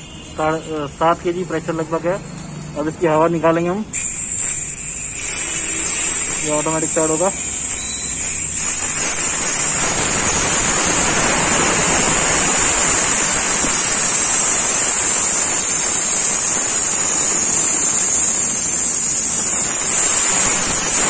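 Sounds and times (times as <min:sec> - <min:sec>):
air compressor rushing noise: 0:03.9 - 0:21.0.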